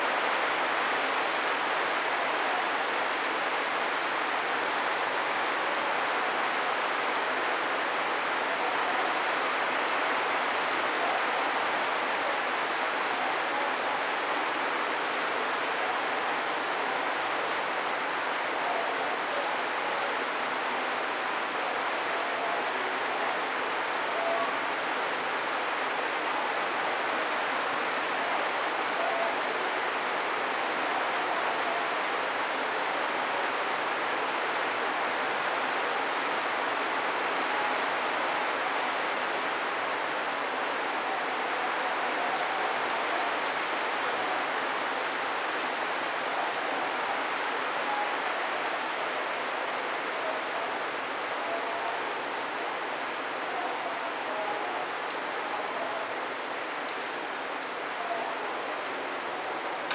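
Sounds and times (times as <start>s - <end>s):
steady rain on palms: 0.0s - 59.9s.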